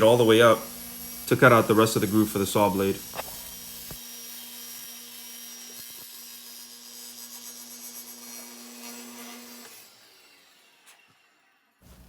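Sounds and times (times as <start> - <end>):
table saw motor hum: 0.0 - 12.0.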